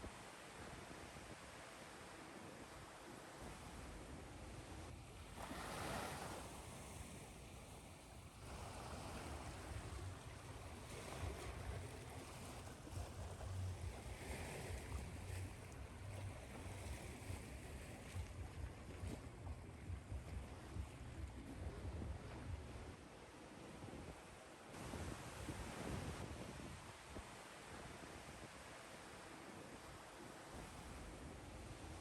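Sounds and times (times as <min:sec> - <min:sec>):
low rumble of surf: 0:00.0 - 0:32.0.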